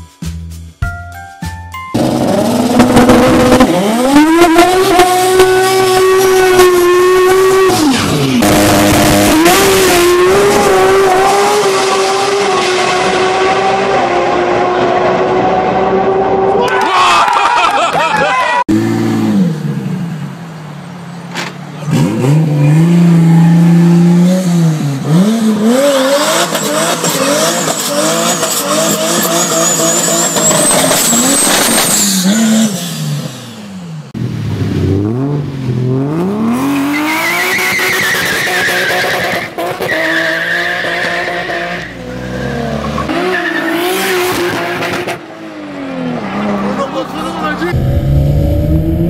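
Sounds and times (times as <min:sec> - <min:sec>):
car engine revving hard: 0:02.0 - 0:16.6, 0:21.8 - 0:49.0.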